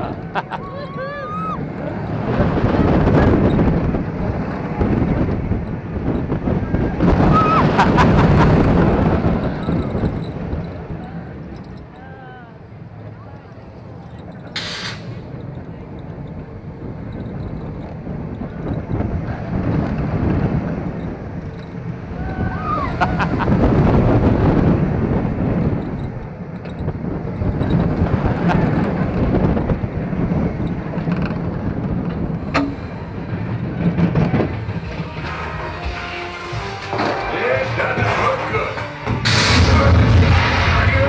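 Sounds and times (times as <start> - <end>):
wind noise on microphone: 0.0 - 12.4, 14.2 - 38.0
roller coaster rumbling on track: 0.0 - 41.0.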